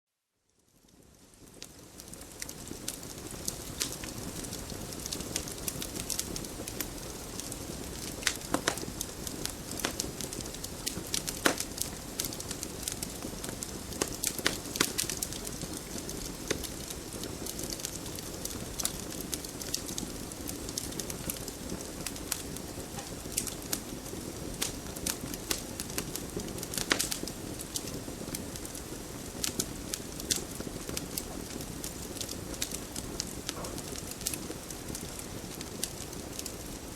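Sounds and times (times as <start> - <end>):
wood crackling and popping: 1.4 - 36.9
flames rushing: 1.5 - 36.9.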